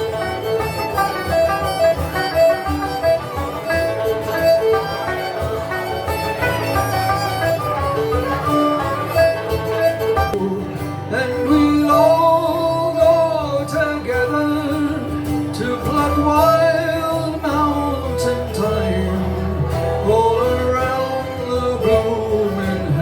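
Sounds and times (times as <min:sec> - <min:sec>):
banjo: 0:00.0 - 0:23.0
twelve-string guitar: 0:00.0 - 0:23.0.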